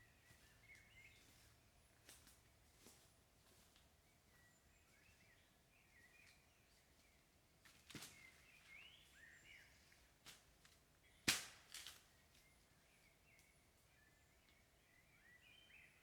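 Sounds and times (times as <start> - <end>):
small birds chirping: 0.0 - 3.0, 3.6 - 10.2, 12.0 - 16.0.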